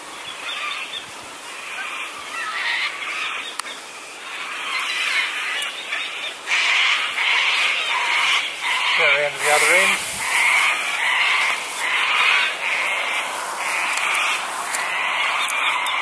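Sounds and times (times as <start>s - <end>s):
birds calling and chattering: 0.0s - 16.0s.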